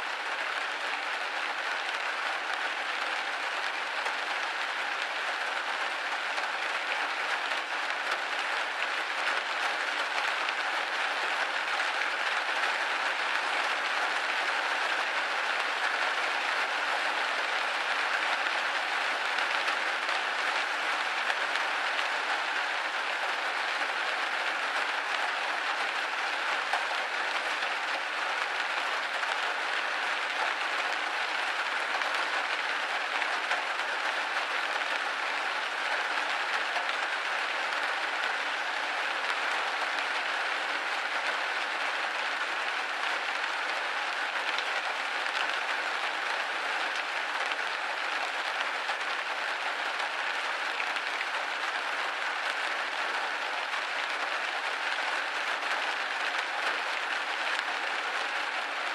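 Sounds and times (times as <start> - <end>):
rain pattering on a window: 0.0 - 58.9.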